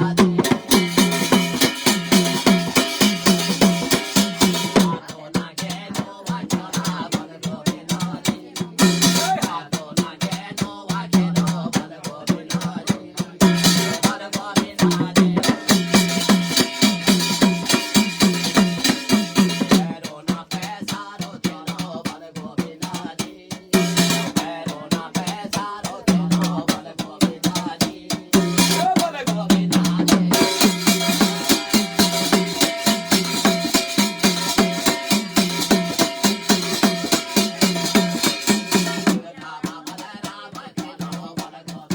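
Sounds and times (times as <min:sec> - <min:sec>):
rapid drum strokes: 0:00.0 - 0:41.9.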